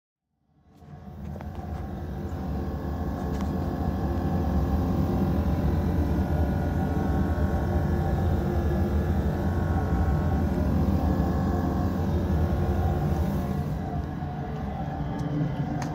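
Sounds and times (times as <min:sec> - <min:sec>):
misfiring diesel engine: 0:00.7 - 0:15.9.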